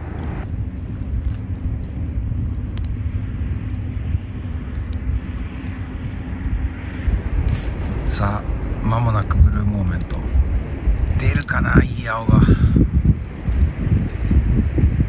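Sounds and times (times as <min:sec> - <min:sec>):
wood fire rumbling and crackling: 0:00.0 - 0:15.0.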